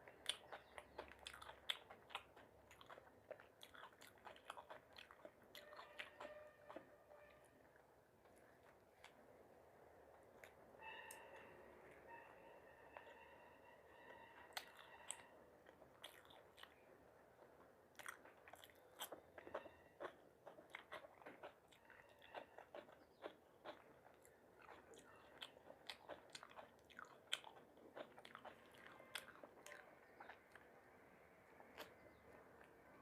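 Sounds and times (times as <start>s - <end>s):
person chewing crunchy food: 0.0s - 9.4s, 14.4s - 33.0s.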